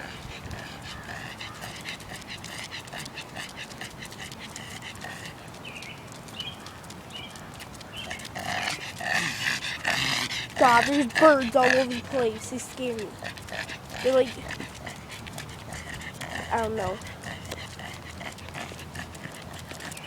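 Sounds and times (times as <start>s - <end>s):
dog panting: 0.0s - 6.2s, 7.3s - 20.0s.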